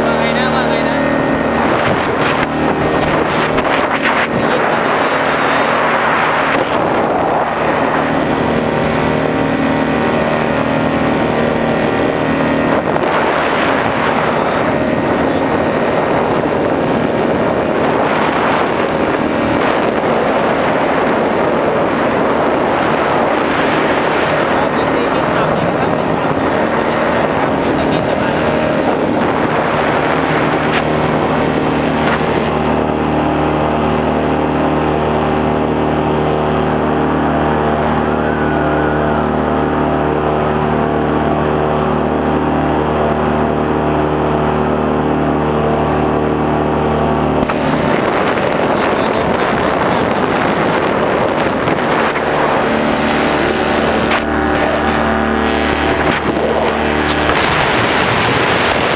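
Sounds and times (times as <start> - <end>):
motor humming: 0.0 - 58.9.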